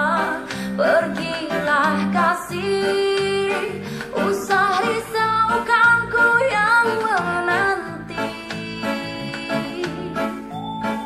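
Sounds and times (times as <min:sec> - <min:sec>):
song through small speaker: 0:00.0 - 0:11.0.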